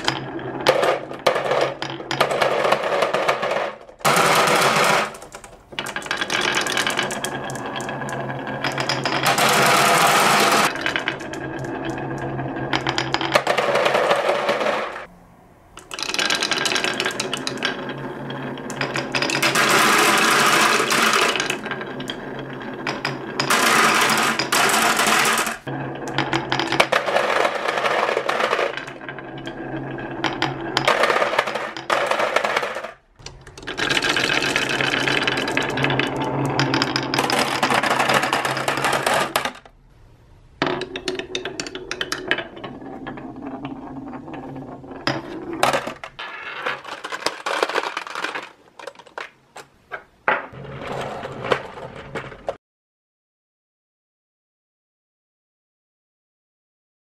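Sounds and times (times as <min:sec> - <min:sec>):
marbles clattering down wooden run: 0:00.0 - 0:15.1, 0:15.8 - 0:39.7, 0:40.6 - 0:49.4.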